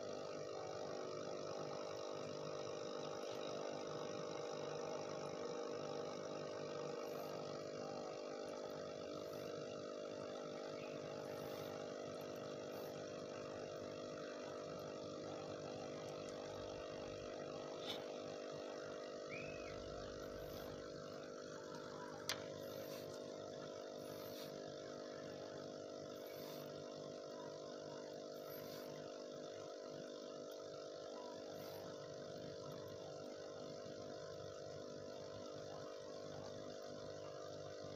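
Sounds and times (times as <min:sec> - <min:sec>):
air pump humming: 0:00.0 - 0:37.9.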